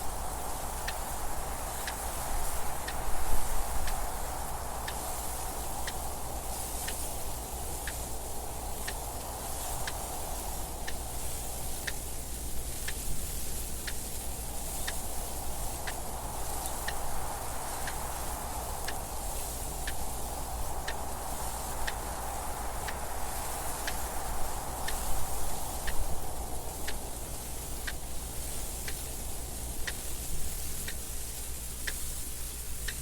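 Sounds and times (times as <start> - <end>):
hiss of wind: 0.0 - 33.0
clock ticking: 1.7 - 12.2, 13.8 - 31.2.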